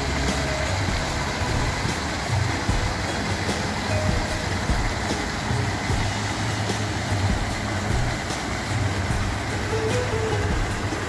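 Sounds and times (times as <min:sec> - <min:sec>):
fountain jets splashing: 0:00.0 - 0:11.0
low uneven rumble: 0:00.0 - 0:11.0.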